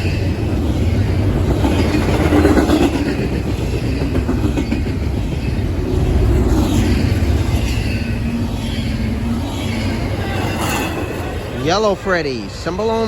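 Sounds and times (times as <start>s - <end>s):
wheels clacking over rail joints: 0.0s - 12.0s
freight cars rumbling past: 0.0s - 13.0s.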